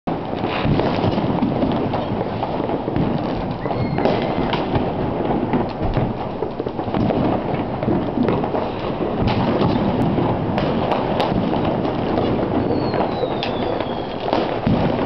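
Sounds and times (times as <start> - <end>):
distant fireworks rumble: 0.1 - 15.0
firework cracks and pops: 0.1 - 15.0.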